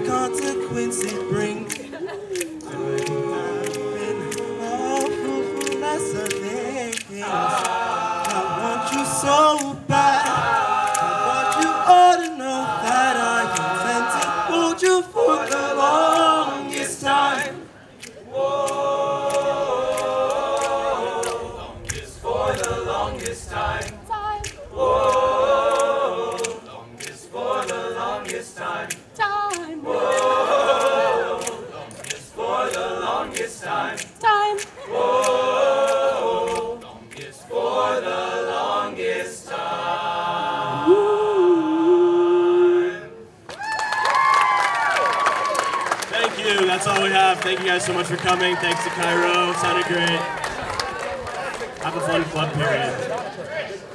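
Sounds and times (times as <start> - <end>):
male a cappella group singing: 0.0 - 43.4.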